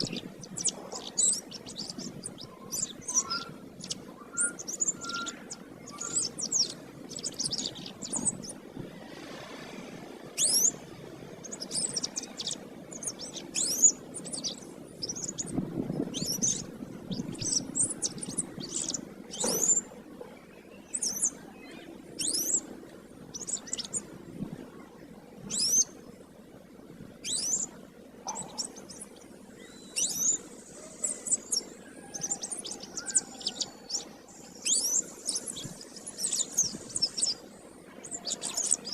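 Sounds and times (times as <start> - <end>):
canary singing: 0.0 - 8.7, 10.4 - 19.9, 20.6 - 22.7, 23.3 - 24.1, 25.5 - 25.9, 27.2 - 38.9
low steady hum: 0.0 - 38.9.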